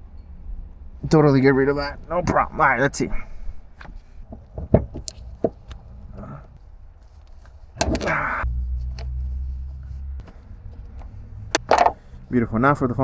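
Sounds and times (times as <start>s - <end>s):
steady low hum: 0.0s - 13.0s
light clicks and knocks: 0.1s - 12.3s.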